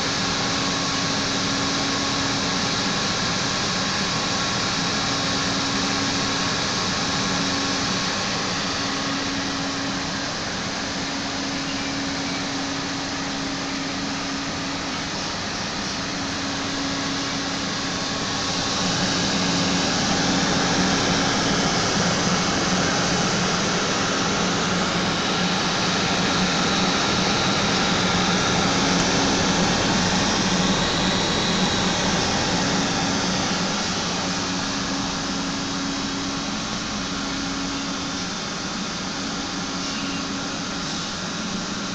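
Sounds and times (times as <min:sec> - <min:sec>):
computer fans whirring: 0:00.0 - 0:41.9.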